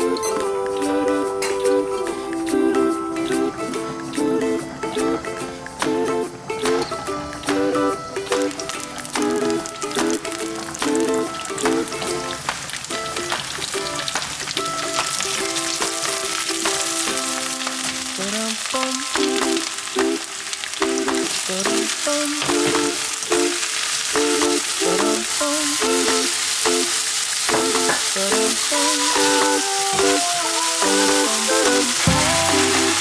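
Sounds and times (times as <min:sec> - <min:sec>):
background music: 0:00.0 - 0:33.0
food sizzling in a pan: 0:06.5 - 0:33.0.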